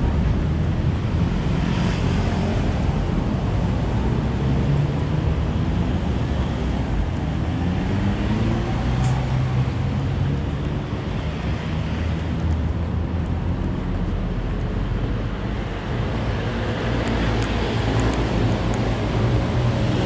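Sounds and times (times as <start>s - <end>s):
road noise rush: 0.0s - 20.0s.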